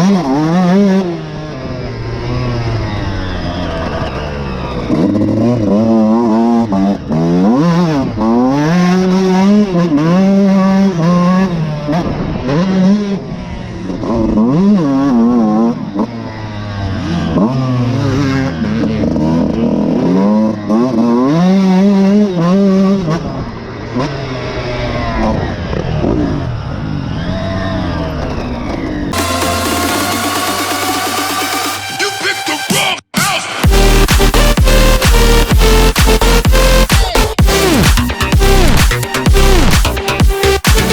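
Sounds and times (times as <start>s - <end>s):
motocross bike engine revving: 0.0s - 26.5s, 33.0s - 40.9s.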